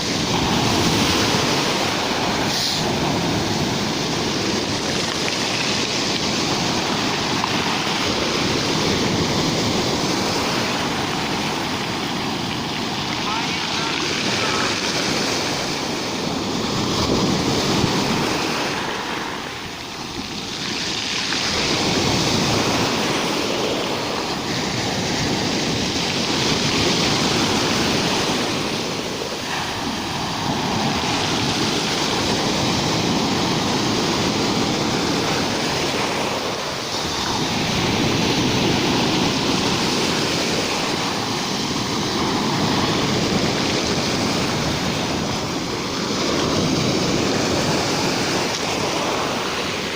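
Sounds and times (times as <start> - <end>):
rough surf breaking on shore: 0.0 - 49.9.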